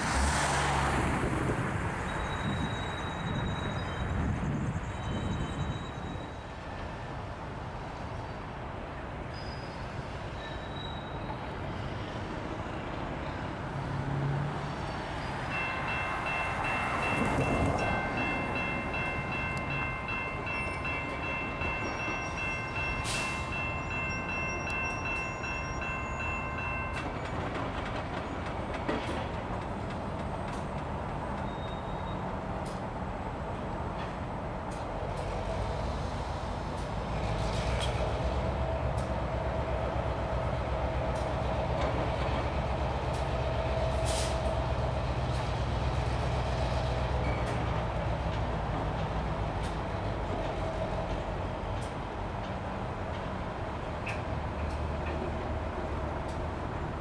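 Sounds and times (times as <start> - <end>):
locomotive and cars rumbling: 0.0 - 57.0.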